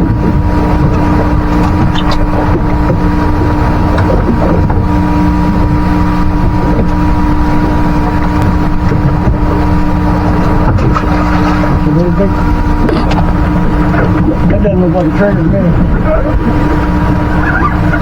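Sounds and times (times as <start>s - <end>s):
boat engine humming: 0.0s - 18.0s
wind buffeting microphone: 0.0s - 18.0s.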